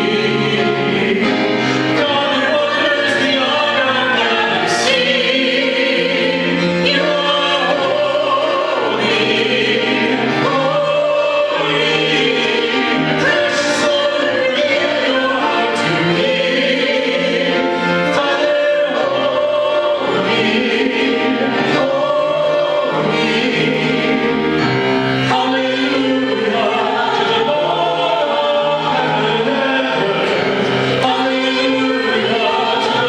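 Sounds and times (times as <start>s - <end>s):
choir singing: 0.0s - 33.0s
instrumental accompaniment: 0.0s - 33.0s.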